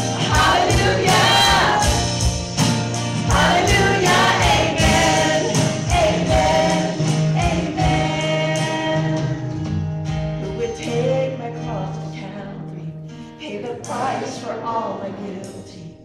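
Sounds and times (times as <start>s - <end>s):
gospel song with band: 0.0s - 16.0s.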